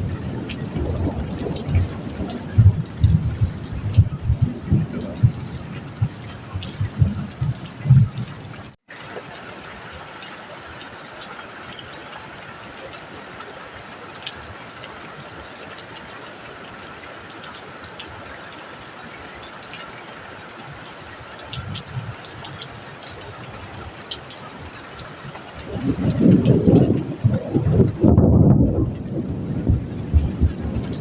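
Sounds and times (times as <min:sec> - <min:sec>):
heavy rain on a metal roof: 0:00.0 - 0:31.0.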